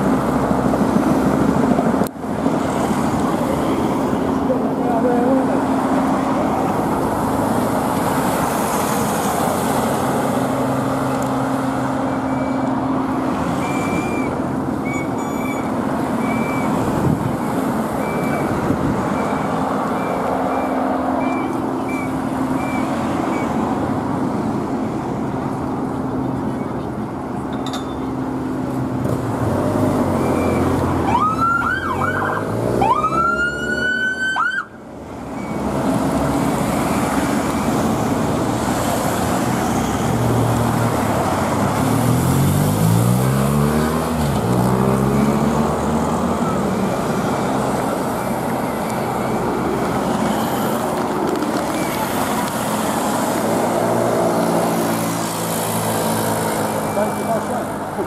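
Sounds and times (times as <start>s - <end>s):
motor vehicles passing: 0.0s - 58.0s.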